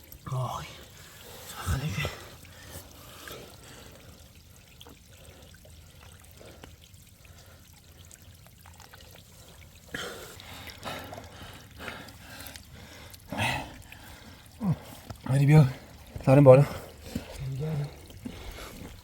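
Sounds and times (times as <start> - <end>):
rainwater trickling and dripping: 0.0 - 19.0.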